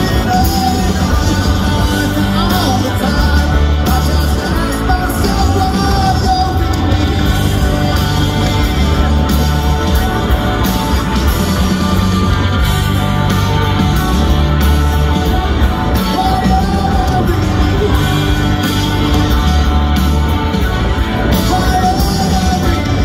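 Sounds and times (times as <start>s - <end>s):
male lead vocal: 0.0s - 12.4s, 15.0s - 23.0s
live rock band playing: 0.0s - 23.0s.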